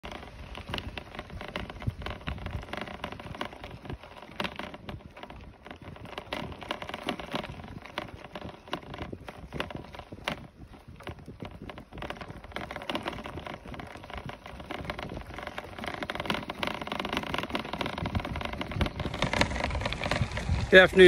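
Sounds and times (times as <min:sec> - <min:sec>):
bicycle tyres crunching on gravel: 0:00.0 - 0:21.0
bike clicks and rattles: 0:00.0 - 0:21.0.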